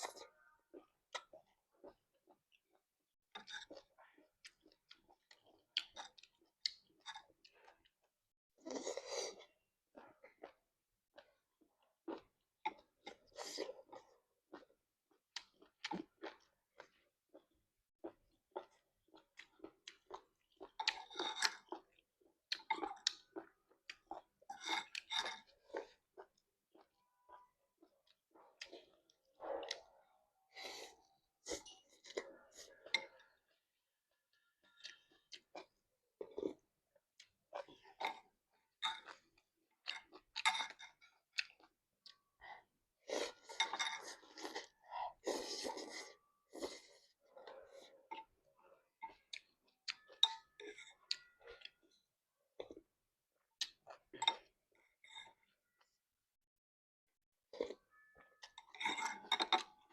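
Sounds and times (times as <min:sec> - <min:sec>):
wet chewing and smacking: 0:00.0 - 0:30.1, 0:34.6 - 0:55.6.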